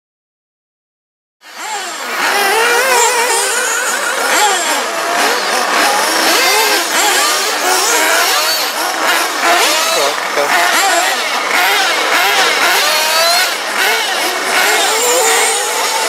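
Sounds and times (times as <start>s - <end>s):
rc engines revving: 1.4s - 16.0s.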